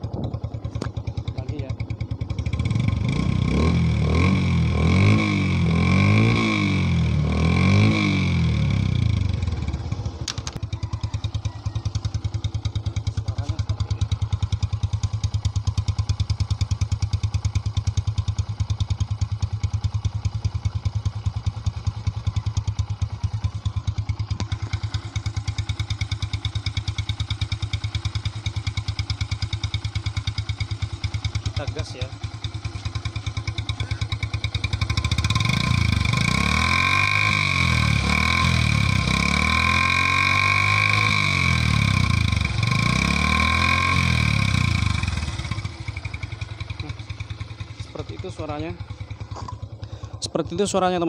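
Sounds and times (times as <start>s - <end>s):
motorcycle engine revving and idling: 0.0s - 51.0s.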